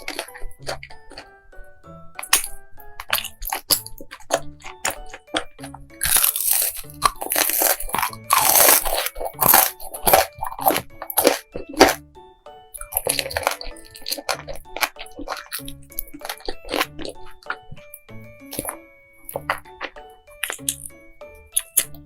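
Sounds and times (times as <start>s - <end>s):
crunchy biting and chewing: 0.0s - 12.0s, 12.7s - 22.0s
light background music: 0.0s - 22.0s.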